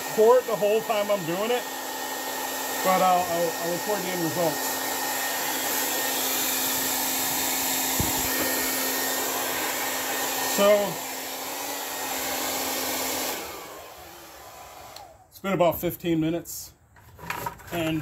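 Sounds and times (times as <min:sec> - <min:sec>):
hair dryer running: 0:00.0 - 0:15.3.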